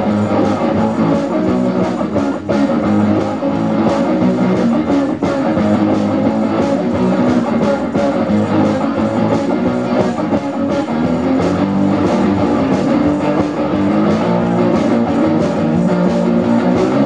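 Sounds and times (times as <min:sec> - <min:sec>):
electric guitars strummed: 0:00.0 - 0:17.0
steady rock drum beat: 0:00.0 - 0:17.0.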